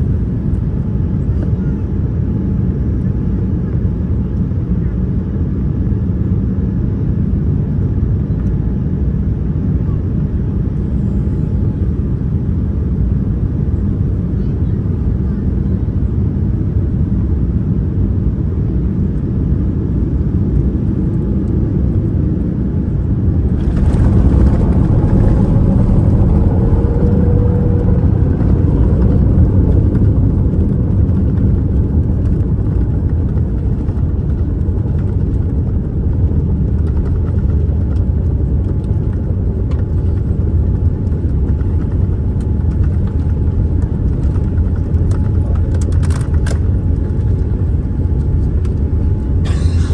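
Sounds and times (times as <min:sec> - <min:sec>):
jet engine and airflow rumble: 0:00.0 - 0:49.9.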